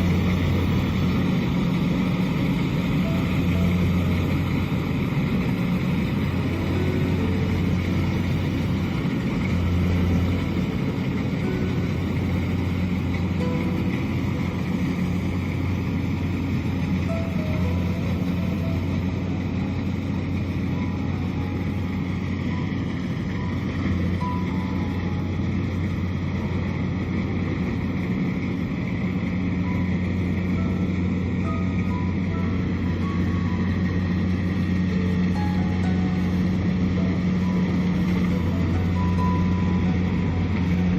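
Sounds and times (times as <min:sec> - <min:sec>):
diesel engine low drone: 0:00.0 - 0:40.9.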